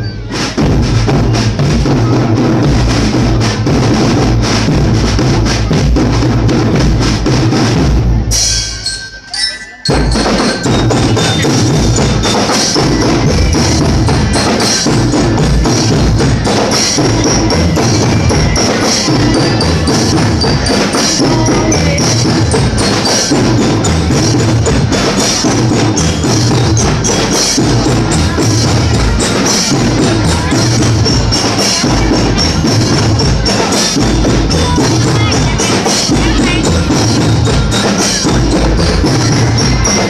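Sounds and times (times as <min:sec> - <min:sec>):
music with busy percussion: 0:00.0 - 0:40.0.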